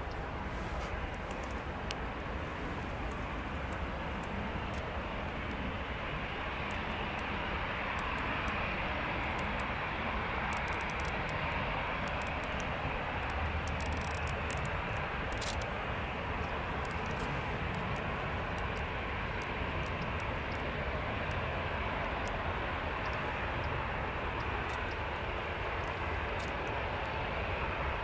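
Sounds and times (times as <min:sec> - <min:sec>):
jet engines at taxi thrust: 0:00.0 - 0:28.0.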